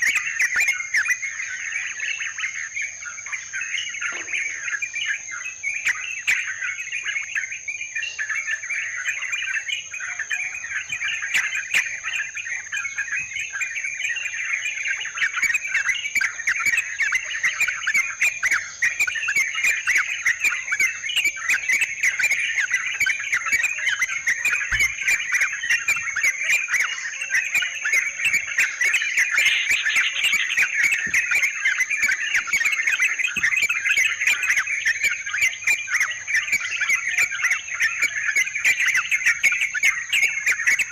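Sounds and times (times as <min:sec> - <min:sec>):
birds chattering and singing: 0:00.0 - 0:40.9.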